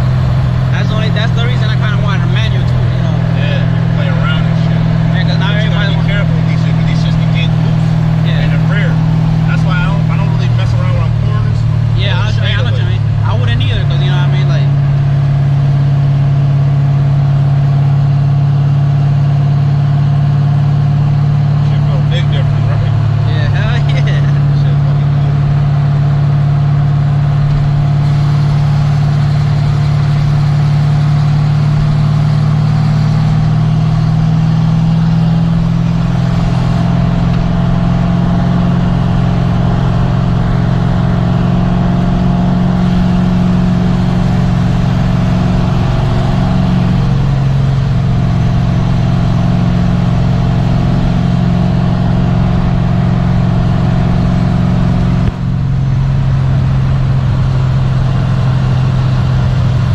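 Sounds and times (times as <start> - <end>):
car engine running: 0.0 - 59.9
road noise: 0.0 - 59.9.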